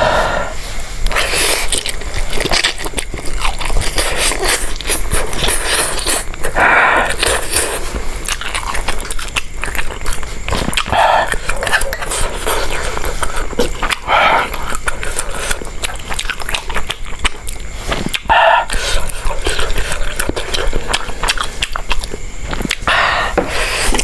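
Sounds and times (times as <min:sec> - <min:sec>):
person chewing and crunching: 0:00.0 - 0:24.0.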